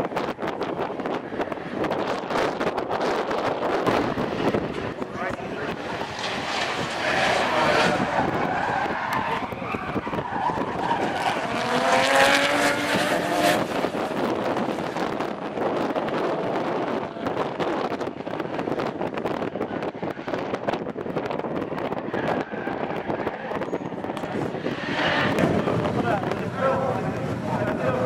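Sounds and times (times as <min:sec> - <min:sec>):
engines revving hard: 0:00.8 - 0:28.0.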